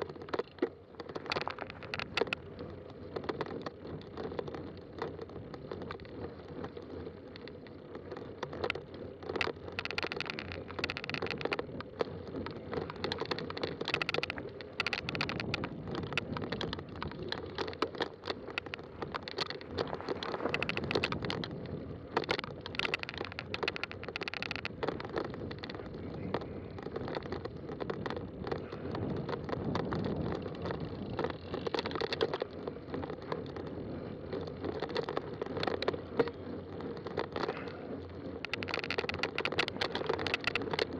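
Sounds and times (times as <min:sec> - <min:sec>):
bike rattles and knocks: 0:00.0 - 0:40.9
bike tyre rumble on dirt: 0:00.0 - 0:40.9.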